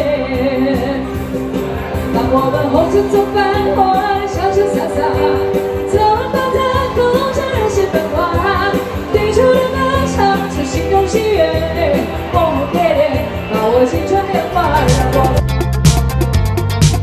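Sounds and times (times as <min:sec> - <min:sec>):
pop song with band: 0:00.0 - 0:17.0.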